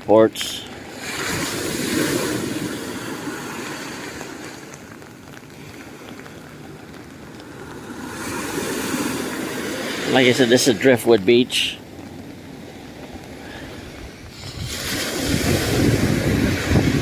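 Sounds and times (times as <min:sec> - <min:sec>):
rain: 0:00.0 - 0:17.0
surf: 0:00.0 - 0:17.0
wind: 0:00.0 - 0:17.0.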